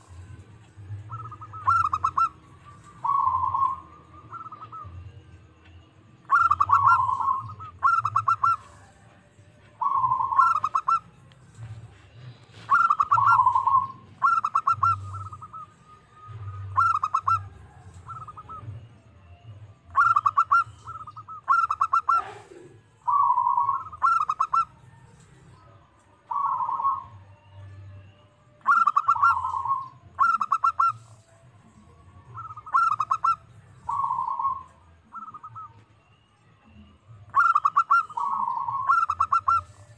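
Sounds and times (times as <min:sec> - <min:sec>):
dove cooing: 0:01.0 - 0:05.2, 0:06.2 - 0:18.9, 0:19.9 - 0:28.0, 0:28.6 - 0:35.8, 0:36.7 - 0:39.9.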